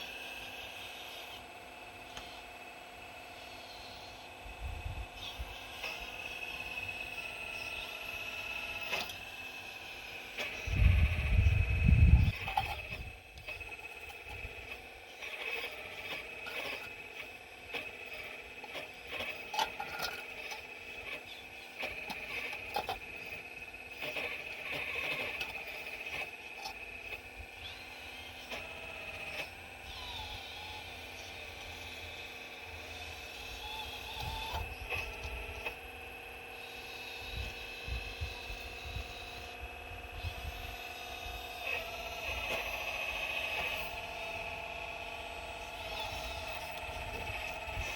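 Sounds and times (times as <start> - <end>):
excavator high whine: 0.0 - 47.9.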